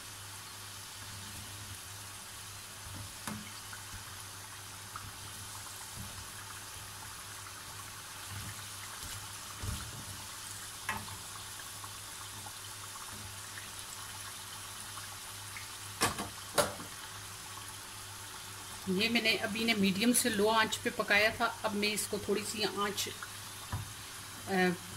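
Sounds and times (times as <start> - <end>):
food sizzling in oil: 0.0 - 24.9.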